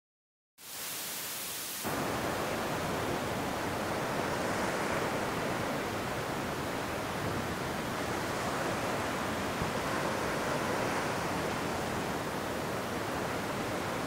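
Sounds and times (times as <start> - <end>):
ocean surf washing onto beach: 0.6 - 14.0.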